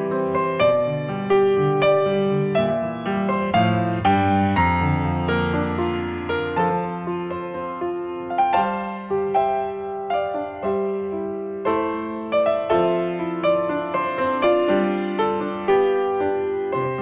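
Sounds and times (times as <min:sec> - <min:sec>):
piano playing gentle chords: 0:00.0 - 0:17.0.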